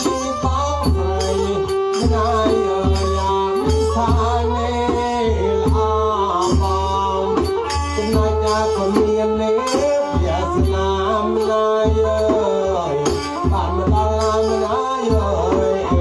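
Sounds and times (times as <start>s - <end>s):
barrel drum beats: 0.0s - 16.0s
bowed fiddle melody: 0.0s - 16.0s.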